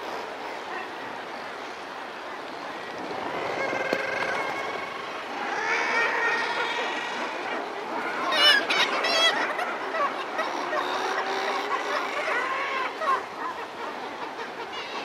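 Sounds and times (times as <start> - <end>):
seabird calls: 2.6 - 15.0.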